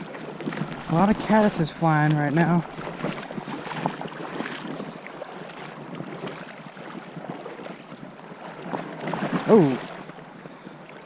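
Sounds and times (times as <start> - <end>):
river water flowing and gurgling: 0.0 - 11.0.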